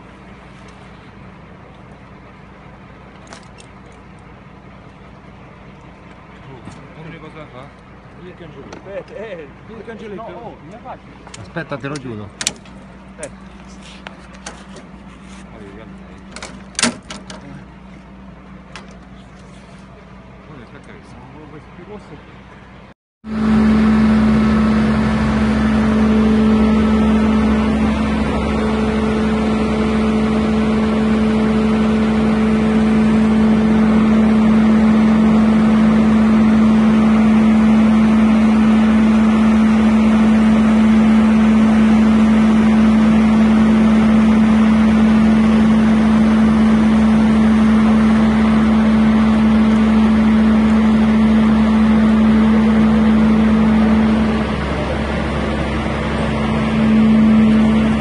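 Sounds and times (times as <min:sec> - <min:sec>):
fire truck engine running: 0:00.0 - 0:58.0.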